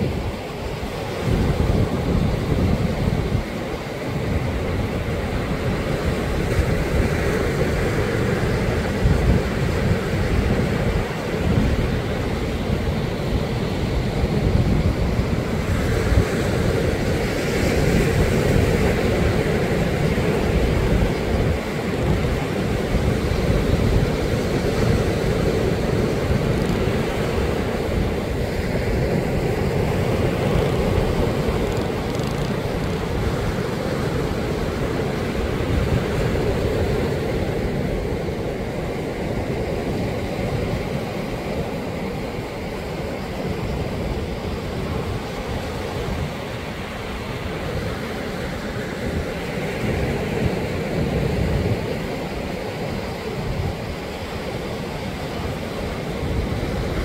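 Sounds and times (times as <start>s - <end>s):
waves breaking on beach: 0.0s - 57.0s
wind rumbling on microphone: 0.0s - 57.0s.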